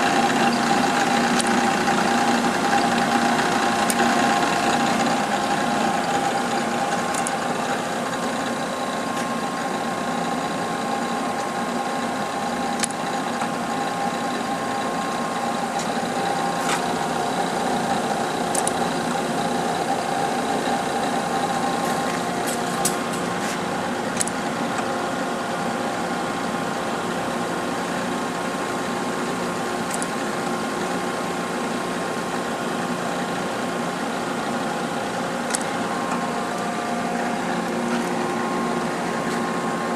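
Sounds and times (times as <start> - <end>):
grinder machine hum: 0.0 - 39.9.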